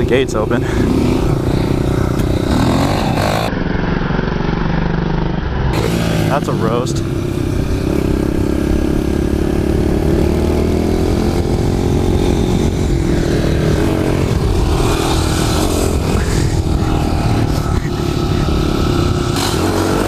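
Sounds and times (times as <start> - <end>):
small motorbike engine revving: 0.6 - 20.0.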